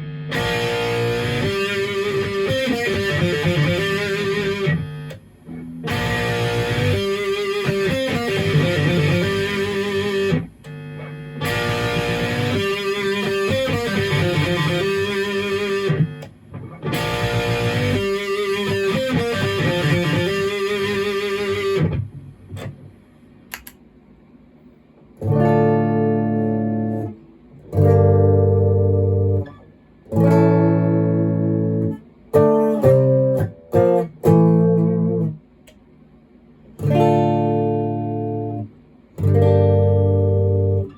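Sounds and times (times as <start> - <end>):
distorted electric guitar riffing: 0.0 - 22.9, 25.2 - 35.4, 36.8 - 40.9
held guitar chords ringing: 0.0 - 22.9, 25.2 - 35.5, 36.7 - 40.9.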